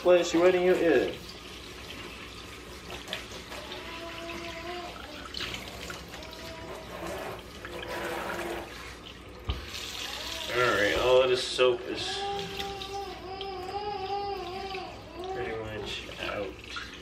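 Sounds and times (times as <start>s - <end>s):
tap water splashing into sink: 0.3s - 11.2s, 12.2s - 17.0s.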